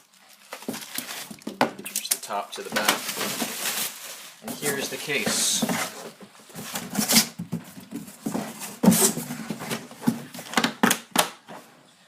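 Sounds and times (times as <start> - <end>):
packaging rustling: 0.0 - 11.2.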